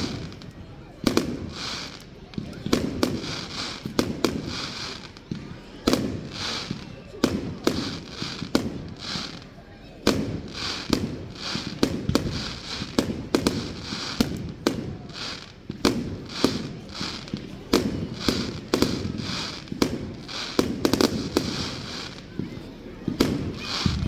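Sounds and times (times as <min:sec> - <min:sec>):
fireworks banging: 0:00.0 - 0:24.0
fireworks hissing: 0:00.0 - 0:24.0.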